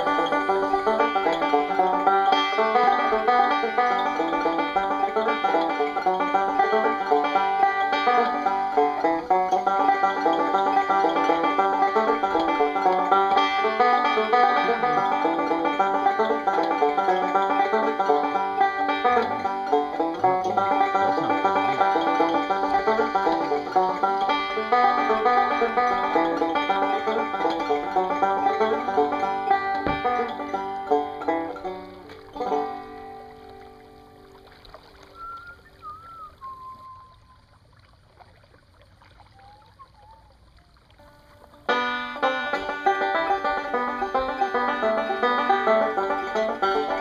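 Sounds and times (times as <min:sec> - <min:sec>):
fast-picked banjo: 0:00.0 - 0:34.3, 0:41.0 - 0:47.0
bluegrass instrumental music: 0:00.0 - 0:37.0, 0:41.0 - 0:47.0.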